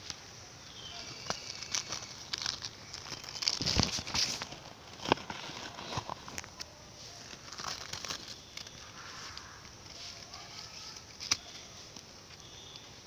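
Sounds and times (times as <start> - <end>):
paper envelope rustling: 1.1 - 12.5.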